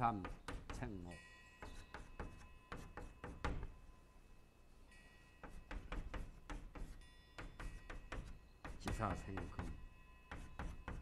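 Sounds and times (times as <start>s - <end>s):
chalk tapping on blackboard: 0.1s - 3.7s, 5.4s - 11.0s.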